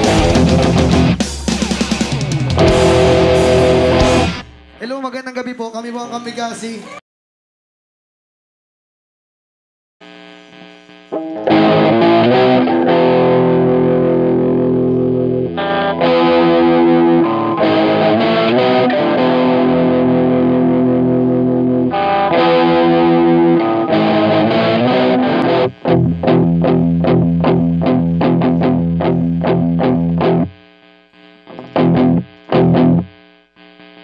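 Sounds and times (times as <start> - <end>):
distorted electric guitar chords: 0.0 - 5.2, 10.0 - 34.0.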